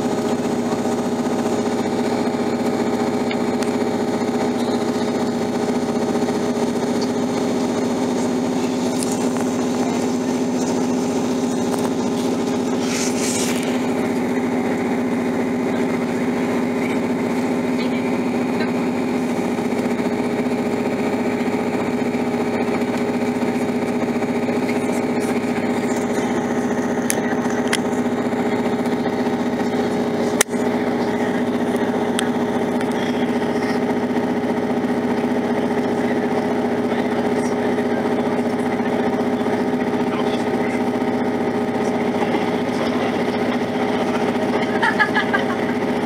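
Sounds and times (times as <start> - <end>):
train engine drone and rolling: 0.0 - 46.0.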